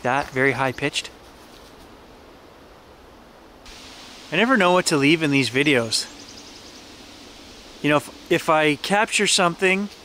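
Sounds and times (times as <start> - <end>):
faint forest background hiss: 0.0 - 10.0.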